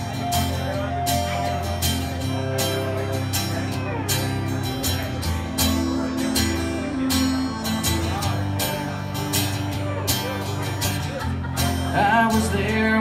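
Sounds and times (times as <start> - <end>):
acoustic guitar strumming: 0.0 - 13.0
pedal steel guitar gliding notes: 0.0 - 13.0.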